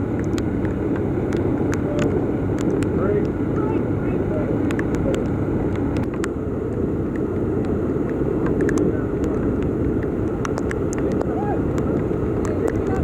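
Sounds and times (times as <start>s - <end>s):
torrential rain pouring: 0.0s - 13.0s.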